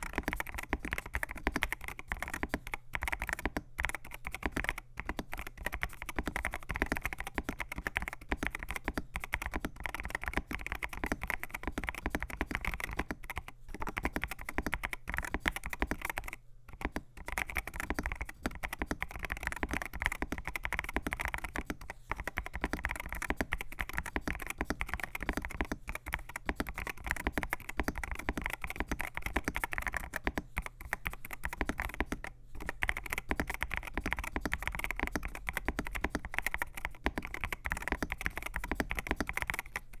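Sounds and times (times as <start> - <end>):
mechanical keyboard typing clacks: 0.0 - 40.0.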